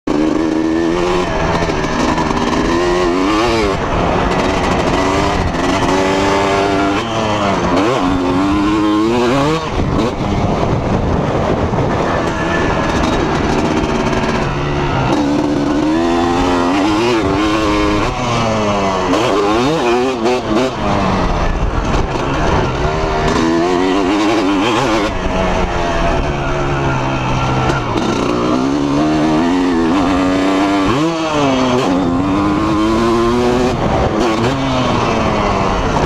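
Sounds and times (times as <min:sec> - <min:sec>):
motocross engine revving: 0:00.1 - 0:36.0.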